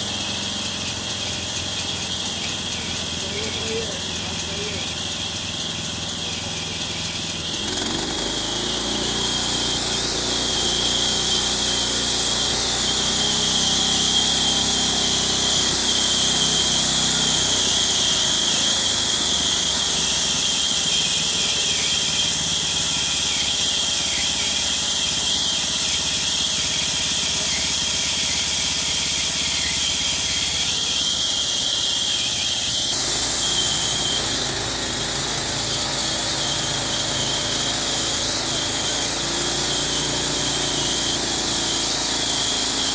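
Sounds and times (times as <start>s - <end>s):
power saw cutting wood: 0.0s - 42.9s.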